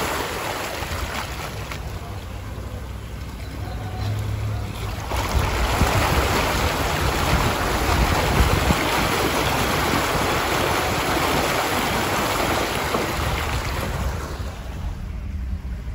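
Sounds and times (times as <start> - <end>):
floodwater rushing and splashing: 0.0 - 15.7.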